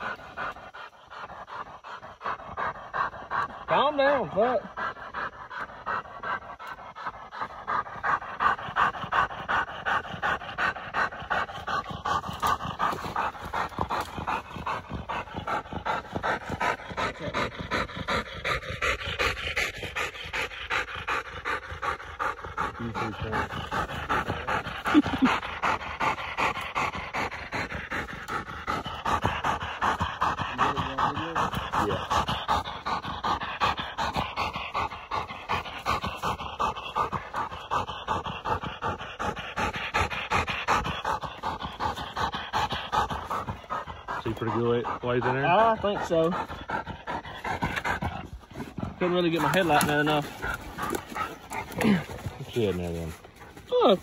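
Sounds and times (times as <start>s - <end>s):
dog panting hard: 0.0s - 54.0s.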